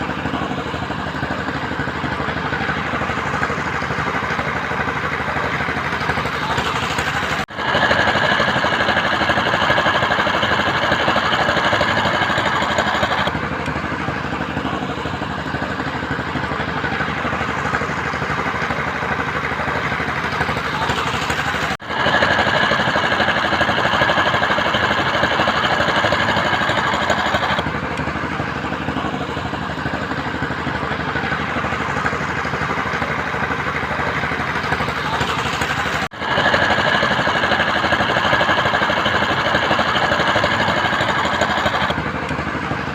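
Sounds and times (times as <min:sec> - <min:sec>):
construction machinery engine rattling: 0:00.0 - 0:42.9.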